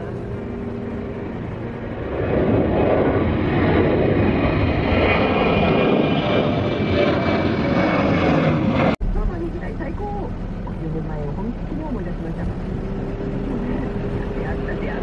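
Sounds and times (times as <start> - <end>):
airliner engines rushing: 0.0 - 15.0.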